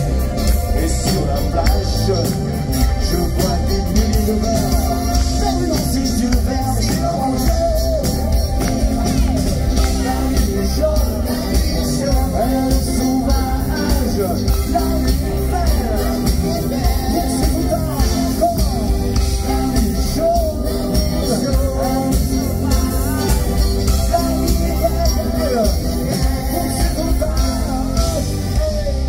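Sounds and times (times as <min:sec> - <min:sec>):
heavy bass: 0:00.0 - 0:29.0
pop-rock band playing: 0:00.0 - 0:29.0
steady drum beat: 0:00.0 - 0:29.0.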